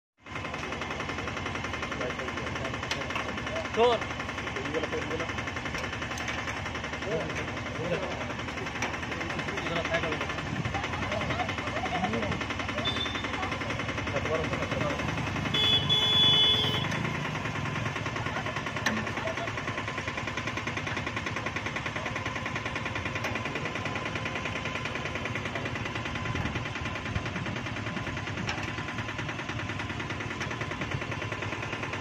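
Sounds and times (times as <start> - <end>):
fast mechanical rattling: 0.2 - 32.0.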